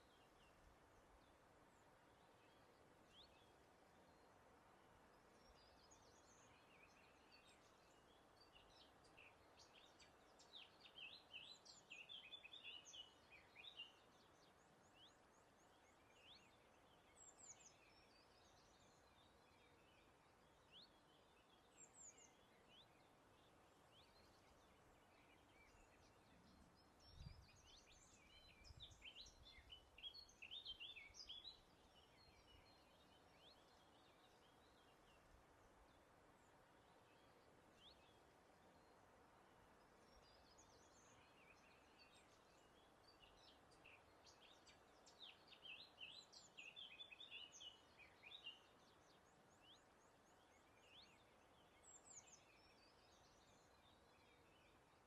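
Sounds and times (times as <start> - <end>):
faint breeze hiss: 0.0 - 55.0
songbirds twittering and chirping: 0.0 - 55.0.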